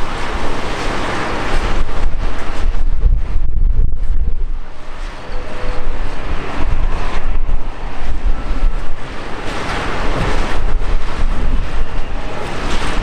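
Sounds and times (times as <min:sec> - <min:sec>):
jet engines roaring: 0:00.0 - 0:13.0
wind buffeting microphone: 0:00.0 - 0:13.0.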